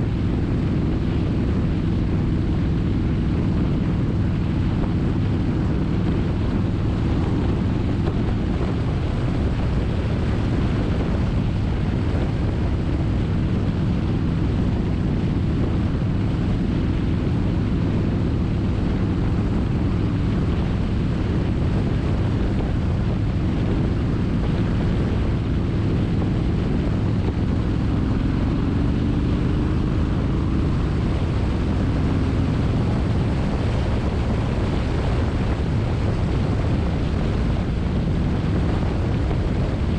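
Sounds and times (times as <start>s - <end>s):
motorcycle engine cruising: 0.0s - 39.9s
wind over microphone: 0.0s - 39.9s.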